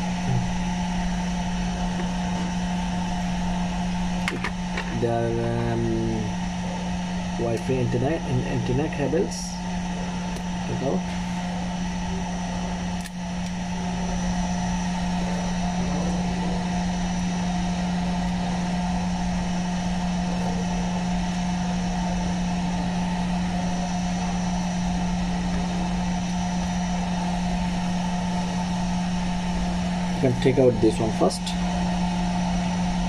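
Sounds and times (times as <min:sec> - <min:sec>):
fan motor drone: 0:00.0 - 0:33.0.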